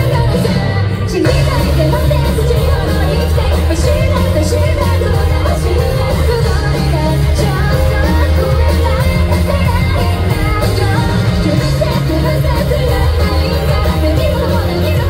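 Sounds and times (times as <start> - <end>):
live rock band playing: 0.0 - 15.0
woman singing: 0.0 - 15.0.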